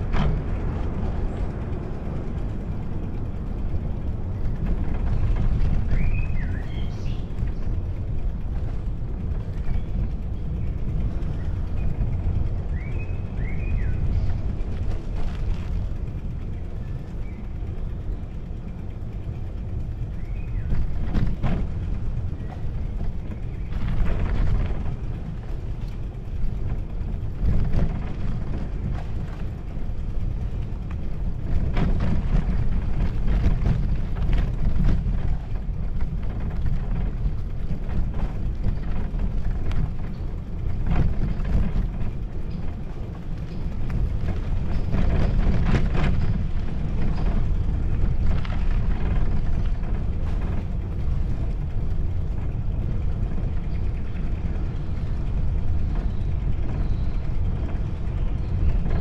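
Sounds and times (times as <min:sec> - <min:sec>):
bicycle tyres rolling on path: 0:00.0 - 0:59.0
bike knocking and rattling: 0:00.0 - 0:59.0
wind rumble on microphone: 0:00.0 - 0:59.0.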